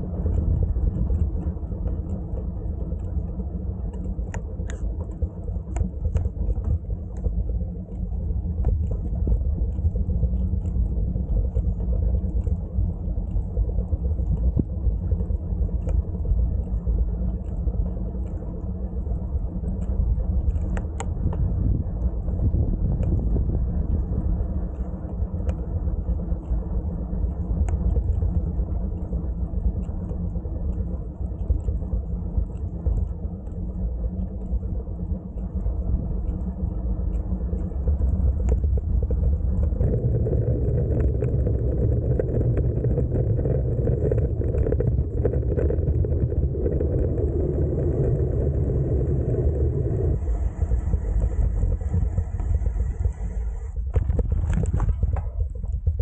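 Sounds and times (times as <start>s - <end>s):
bicycle tyre rumble: 0.0s - 56.0s
wind on microphone: 0.0s - 56.0s.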